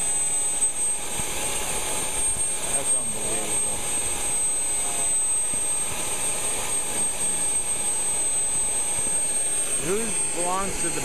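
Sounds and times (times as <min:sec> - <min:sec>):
model jet turbine whine: 0:00.0 - 0:11.0.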